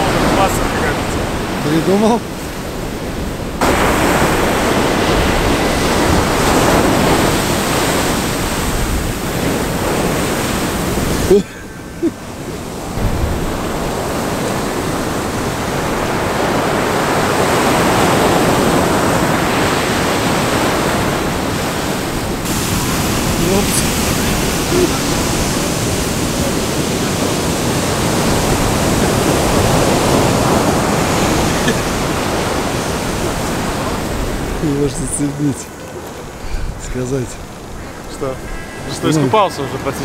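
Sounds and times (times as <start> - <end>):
surf breaking on shore: 0.0 - 40.0.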